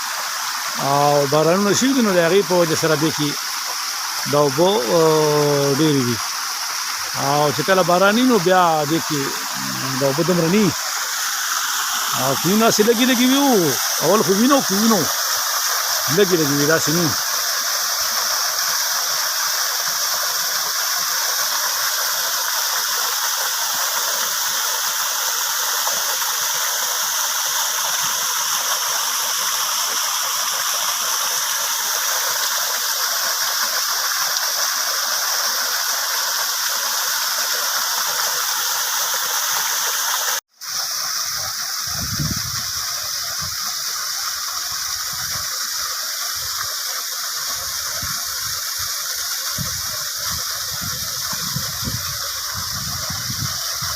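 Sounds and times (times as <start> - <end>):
waterfall rushing and splashing: 0.0 - 53.9.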